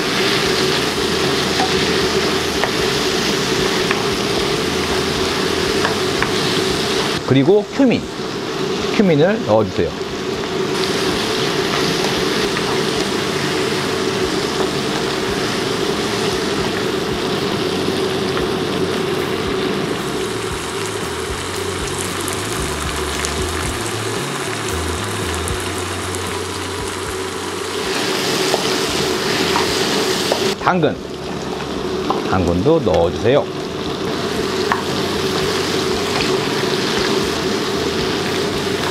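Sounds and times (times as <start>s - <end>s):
low hum: 0.0s - 7.3s, 9.9s - 38.9s
meat and onion sizzling in oil: 0.0s - 38.9s.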